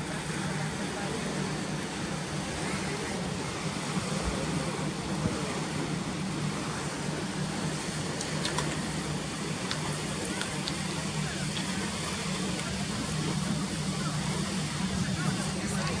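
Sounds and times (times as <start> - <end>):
water rushing through lock sluices: 0.0 - 16.0.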